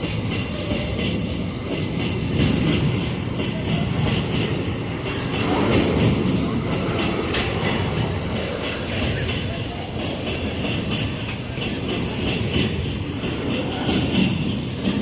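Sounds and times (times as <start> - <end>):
train wheels rumbling on rails: 0.0 - 15.0
wheels clacking over rail joints: 0.0 - 15.0.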